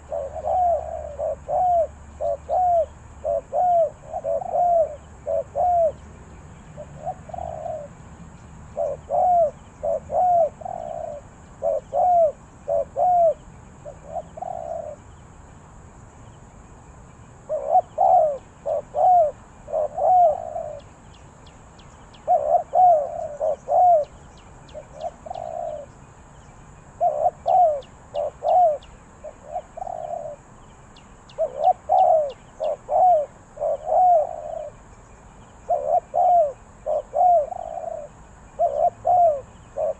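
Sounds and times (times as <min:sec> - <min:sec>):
dove cooing: 0:00.0 - 0:06.0, 0:06.8 - 0:08.0, 0:08.7 - 0:15.0, 0:17.5 - 0:20.9, 0:22.2 - 0:26.0, 0:27.0 - 0:30.5, 0:31.3 - 0:34.8, 0:35.6 - 0:39.9.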